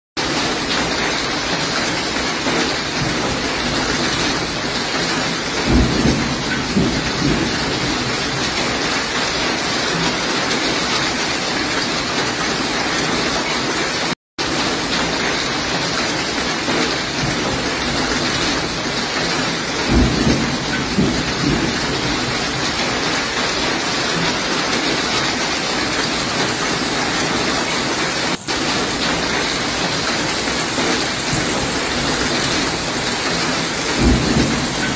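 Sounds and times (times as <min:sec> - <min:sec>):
heavy rain and hail on paving: 0:00.2 - 0:34.9.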